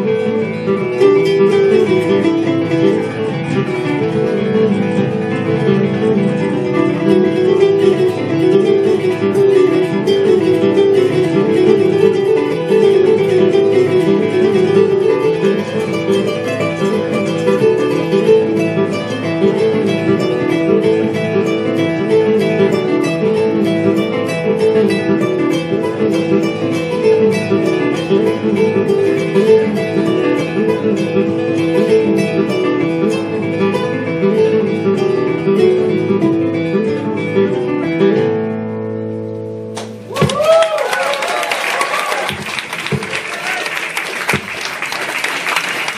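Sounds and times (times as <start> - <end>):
acoustic guitar playing: 0.0 - 40.8, 41.8 - 45.9
kora playing: 0.0 - 45.9.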